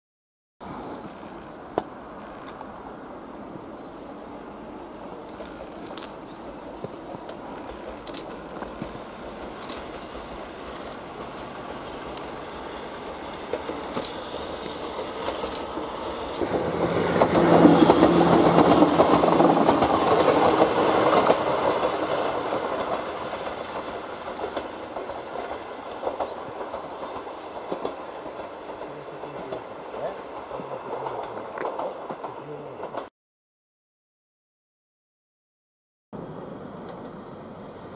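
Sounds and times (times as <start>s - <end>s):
electric train running past: 0.6s - 33.1s, 36.2s - 37.9s.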